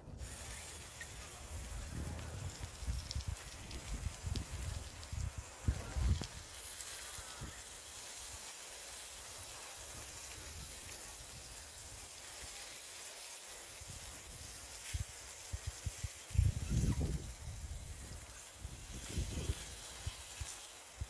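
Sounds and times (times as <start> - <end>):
food sizzling on a barbecue: 0.0 - 21.0.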